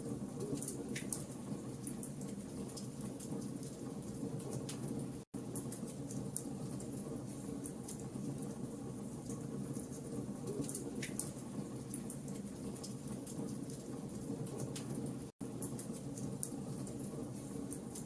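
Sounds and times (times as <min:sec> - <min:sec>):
low rumble of flames: 0:00.0 - 0:18.0
wood fire crackling and popping: 0:00.1 - 0:18.0.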